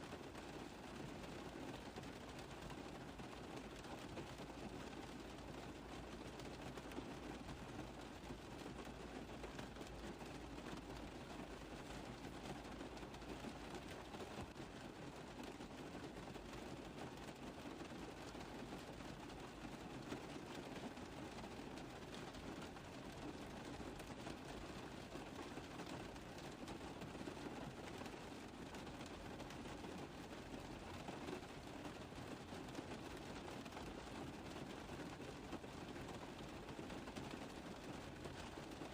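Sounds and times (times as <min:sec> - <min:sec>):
rain tapping on a car roof: 0:00.0 - 0:38.9.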